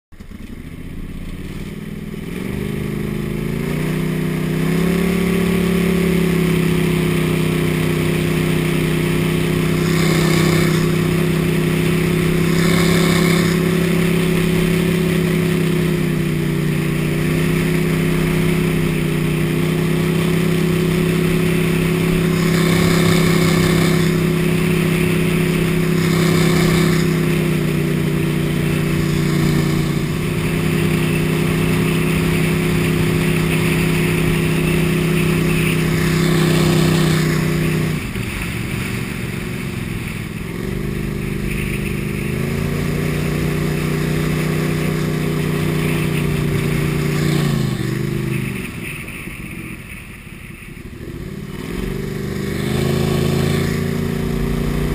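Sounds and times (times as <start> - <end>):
mud motor pushing a boat: 0.2 - 48.6.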